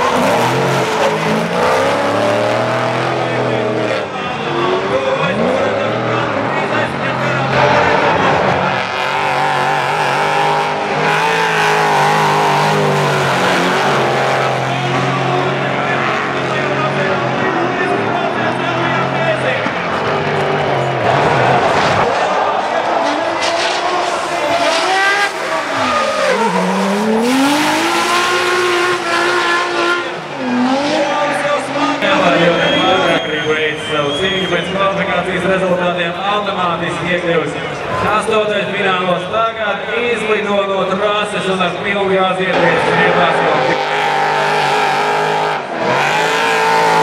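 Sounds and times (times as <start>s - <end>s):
car engines revving hard: 0.0s - 47.0s.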